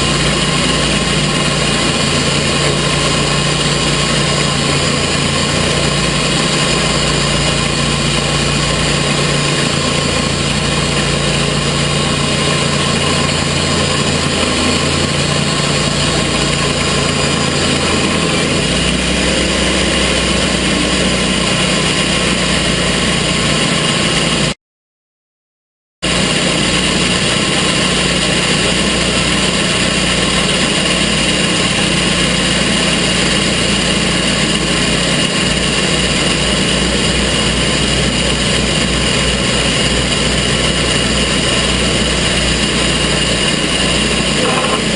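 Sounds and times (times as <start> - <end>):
sawmill engine running: 0.0 - 24.6, 26.0 - 44.9.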